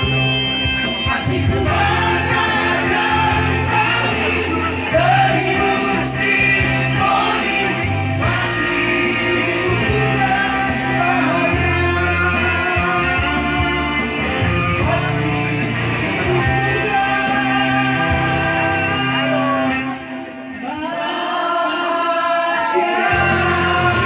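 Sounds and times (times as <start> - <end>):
band with guitar: 0.0 - 24.0
person singing: 0.0 - 24.0.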